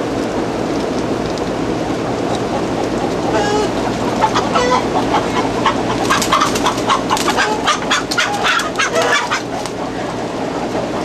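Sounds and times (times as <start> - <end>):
chickens clucking: 1.9 - 11.0.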